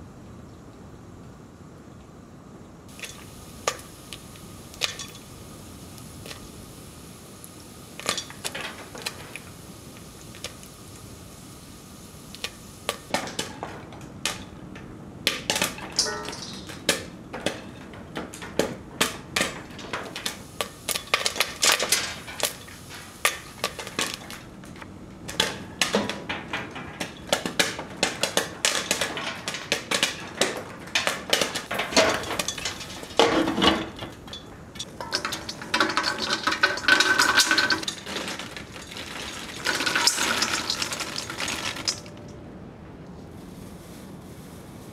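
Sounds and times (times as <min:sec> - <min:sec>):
popcorn popping in a pan: 0:02.9 - 0:42.2.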